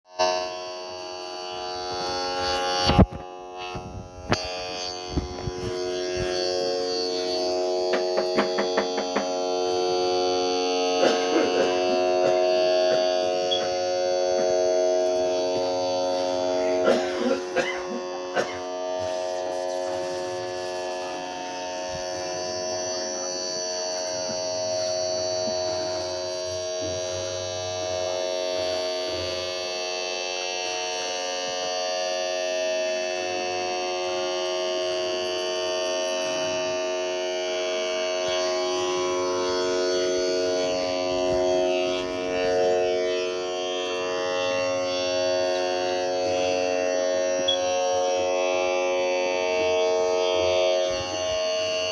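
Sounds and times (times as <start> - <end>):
buzzing drone: 0.1 - 51.9.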